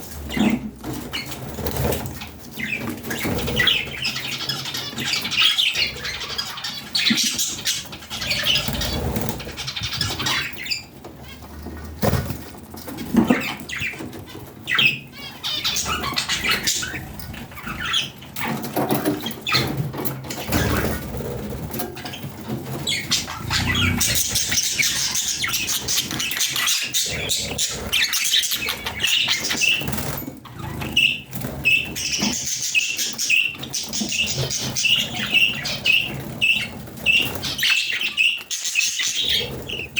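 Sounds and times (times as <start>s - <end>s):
budgerigars chirping: 0.2s - 39.9s.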